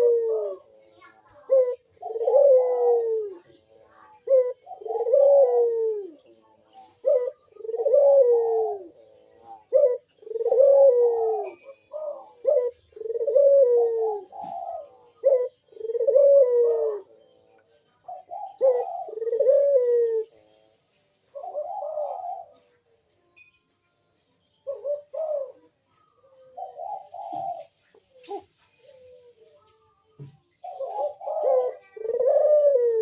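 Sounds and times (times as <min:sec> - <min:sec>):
dove cooing: 0:00.0 - 0:17.2, 0:18.0 - 0:20.4, 0:21.3 - 0:22.8, 0:24.6 - 0:29.5, 0:30.2 - 0:33.0.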